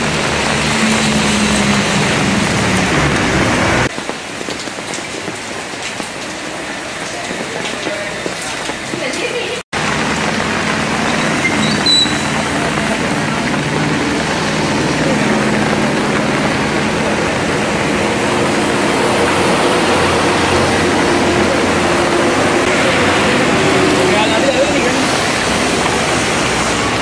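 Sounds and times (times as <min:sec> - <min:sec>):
heavy rain on water: 0:00.0 - 0:27.0.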